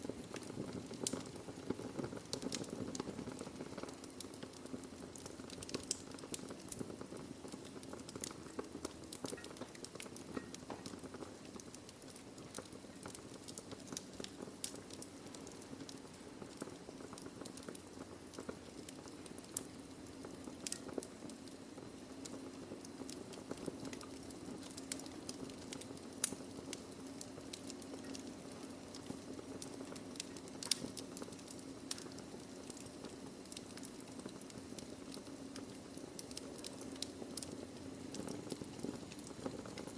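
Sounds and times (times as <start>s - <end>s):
fire hissing: 0.0s - 39.9s
logs crackling and popping: 0.0s - 39.9s.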